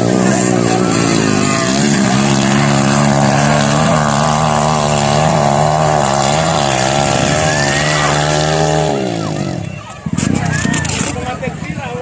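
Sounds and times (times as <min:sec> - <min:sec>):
motorcycle engine revving: 0:00.0 - 0:11.6.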